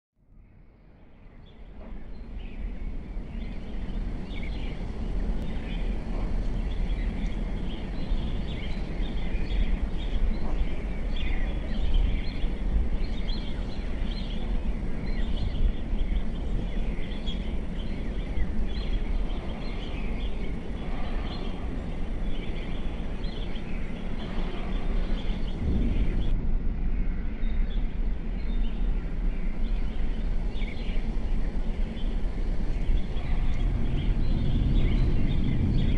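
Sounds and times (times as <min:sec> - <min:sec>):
steady low rumble: 0:00.3 - 0:35.9
small birds chirping: 0:01.0 - 0:26.3, 0:27.1 - 0:35.9.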